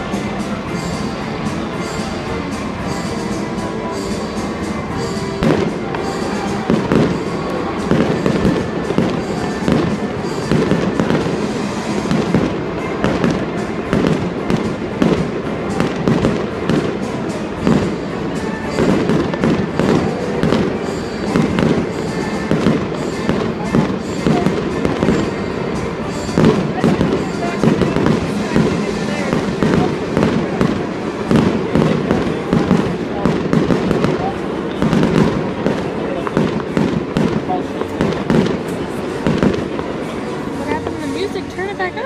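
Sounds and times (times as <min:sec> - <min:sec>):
fireworks bangs and crackles: 0:00.0 - 0:42.0
music: 0:00.0 - 0:42.0.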